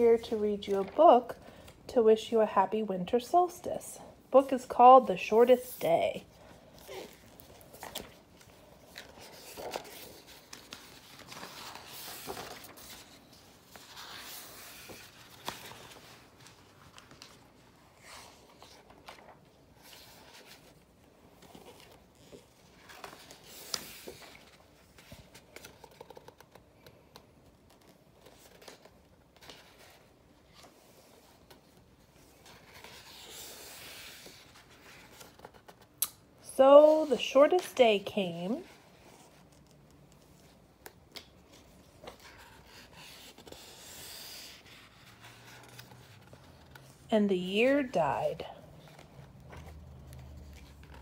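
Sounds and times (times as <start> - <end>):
book pages turning: 0.0 - 1.8, 5.1 - 36.2, 38.6 - 47.1, 47.8 - 51.0.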